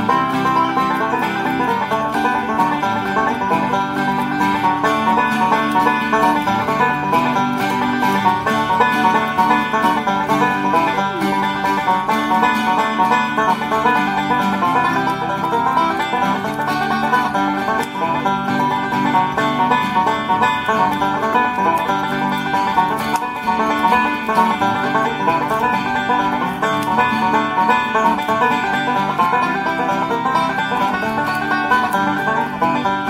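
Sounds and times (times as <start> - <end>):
banjo picking bluegrass: 0.0 - 33.0.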